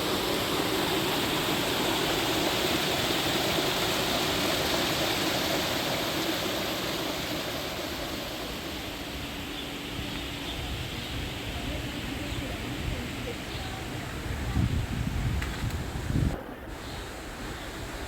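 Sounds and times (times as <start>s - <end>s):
rushing water: 0.0s - 14.5s.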